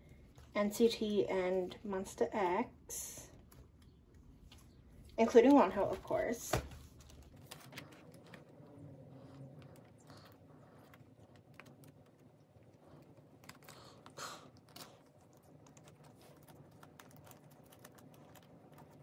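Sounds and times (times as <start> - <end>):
plastic crinkle: 3.4 - 19.0.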